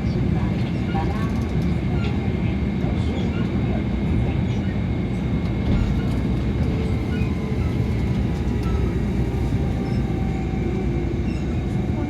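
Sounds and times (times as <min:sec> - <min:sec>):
monorail car rumbling on track: 0:00.0 - 0:12.0.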